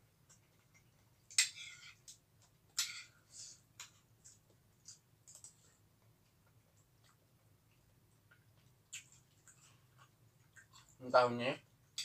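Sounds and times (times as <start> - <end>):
chewing: 0.2 - 11.0.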